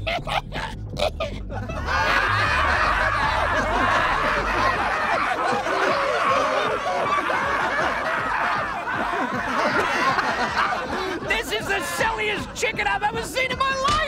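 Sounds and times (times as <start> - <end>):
cartoon crowd laughing: 0.0 - 12.6.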